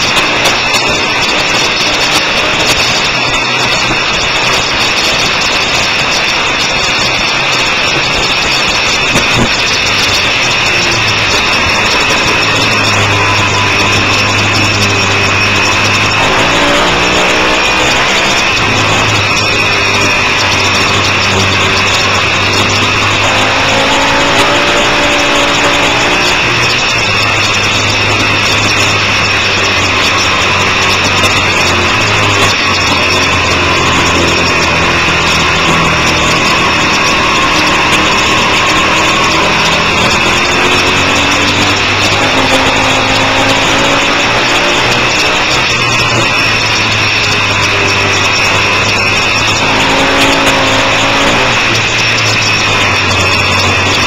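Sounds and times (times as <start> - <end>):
motorcycle engine running hard: 0.0 - 54.0
wind rush: 0.0 - 54.0.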